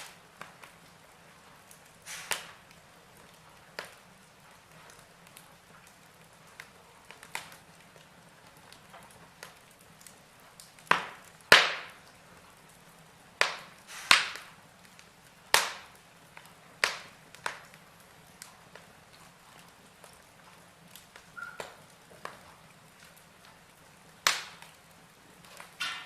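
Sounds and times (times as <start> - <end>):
faint steady hiss: 0.0 - 26.0
logs crackling in fireplace: 0.0 - 26.0.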